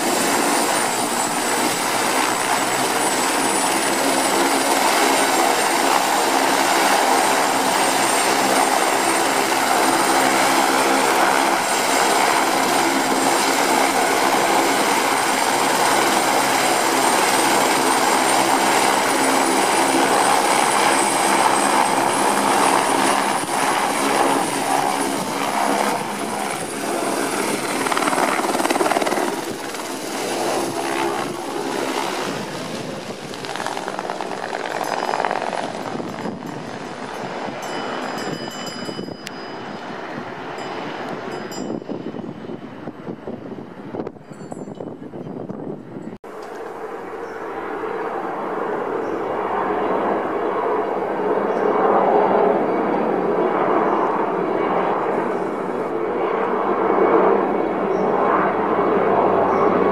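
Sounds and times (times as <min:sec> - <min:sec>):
helicopter rotor drone: 0:00.0 - 0:59.9
helicopter turbine whine: 0:00.0 - 0:59.9.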